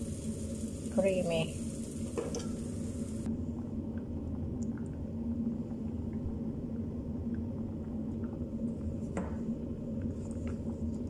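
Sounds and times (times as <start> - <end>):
low kitchen rumble with hum: 0.0 - 11.0.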